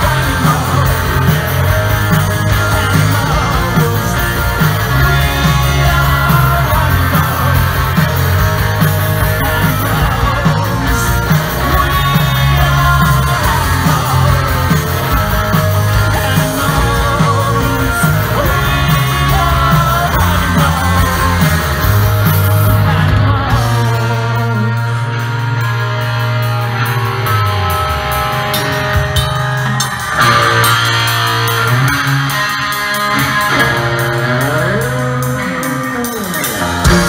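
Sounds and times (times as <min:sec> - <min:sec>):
person singing: 0:00.0 - 0:25.9, 0:33.2 - 0:37.0
bass guitar: 0:00.0 - 0:37.0
drums: 0:00.0 - 0:37.0
electric guitars: 0:00.0 - 0:37.0.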